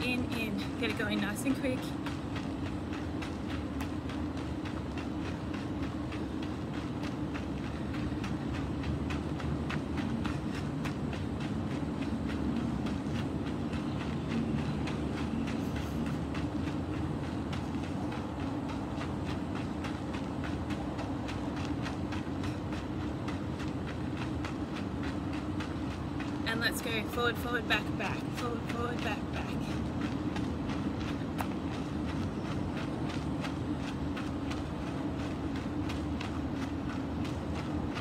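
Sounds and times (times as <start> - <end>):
footsteps on gravel: 0.0 - 38.0.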